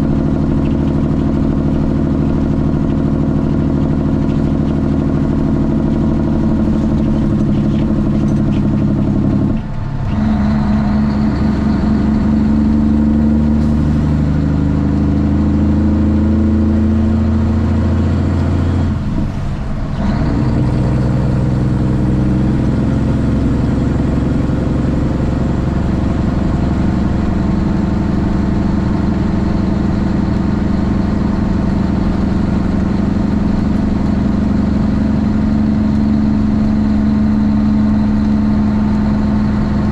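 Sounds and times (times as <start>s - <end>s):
diesel truck exhaust: 0.0s - 39.9s.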